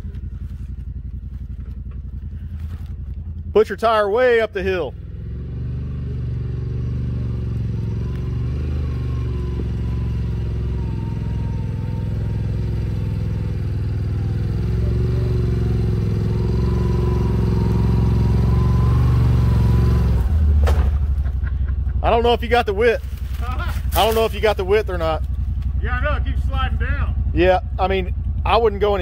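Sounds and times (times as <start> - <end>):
engine running under load: 0.0 - 29.0.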